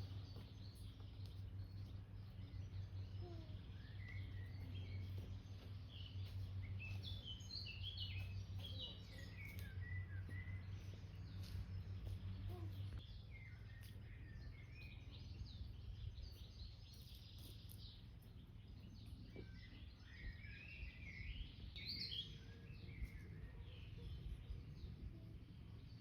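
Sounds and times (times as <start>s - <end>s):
low background rumble: 0.0s - 26.0s
small birds chirping: 0.0s - 26.0s.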